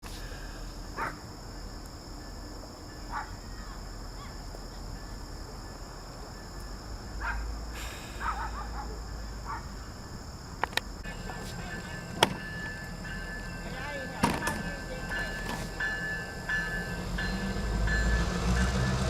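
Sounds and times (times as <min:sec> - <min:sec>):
high insect drone: 0:00.1 - 0:19.0.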